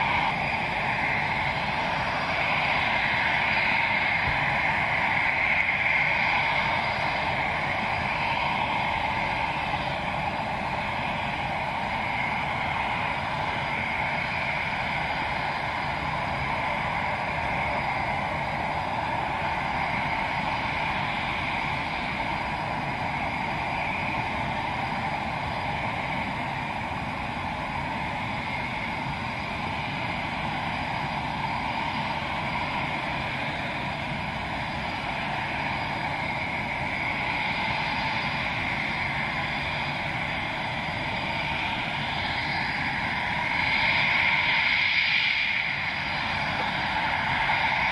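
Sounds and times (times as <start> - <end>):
jet engines idling: 0.0 - 47.9.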